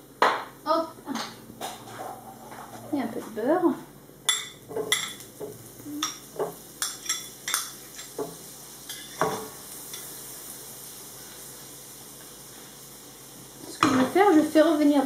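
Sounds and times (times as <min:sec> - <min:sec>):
butter sizzling in pan: 0:01.6 - 0:15.0.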